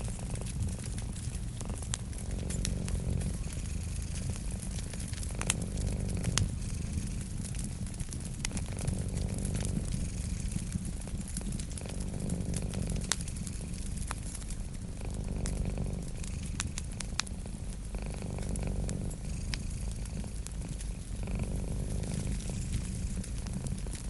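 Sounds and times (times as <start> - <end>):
cat purring: 0.0 - 24.0
wood fire crackling: 0.0 - 24.0.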